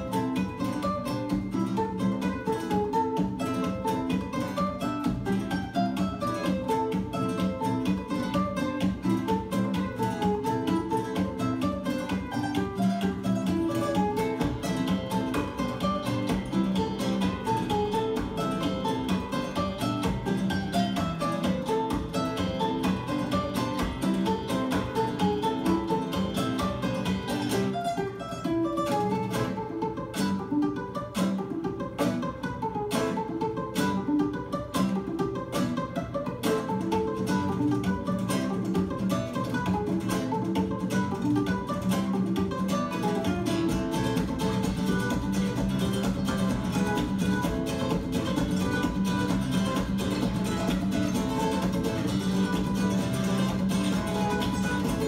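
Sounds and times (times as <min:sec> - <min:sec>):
acoustic guitars playing flamenco: 0:00.0 - 0:55.0.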